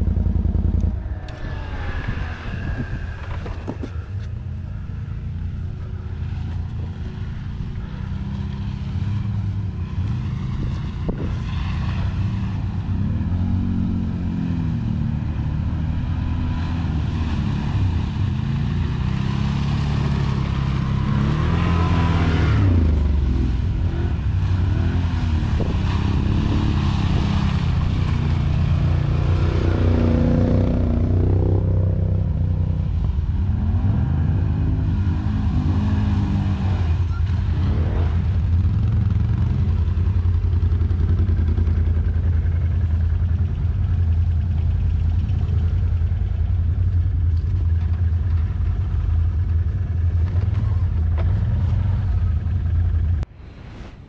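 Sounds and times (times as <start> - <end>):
atv engines revving: 0.0 - 53.3.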